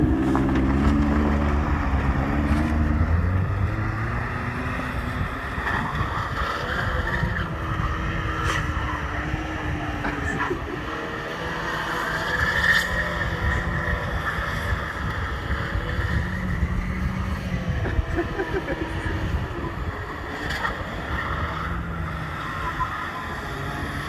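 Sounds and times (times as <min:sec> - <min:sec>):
wind noise on microphone: 0:00.0 - 0:11.4, 0:12.4 - 0:24.0
small truck engine revving: 0:00.0 - 0:24.0.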